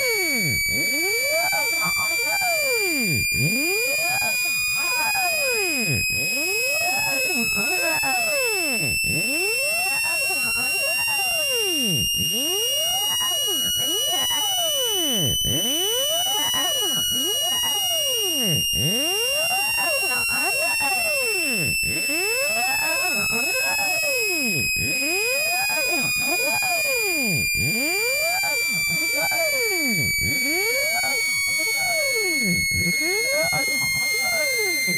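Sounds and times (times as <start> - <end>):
high-pitched test tone whine: 0.0 - 34.9.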